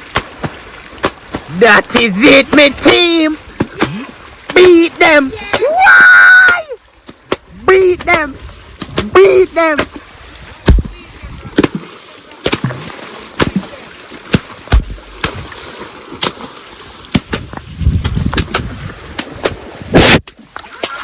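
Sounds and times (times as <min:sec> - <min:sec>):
machetes slapping water: 0:00.0 - 0:21.0
water splashing: 0:00.0 - 0:21.0.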